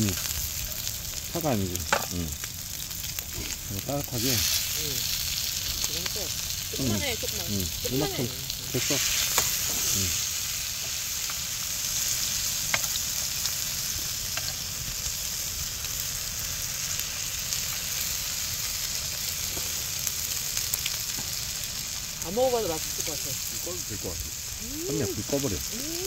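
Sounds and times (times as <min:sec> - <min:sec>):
meat sizzling on a grill pan: 0:00.0 - 0:26.0.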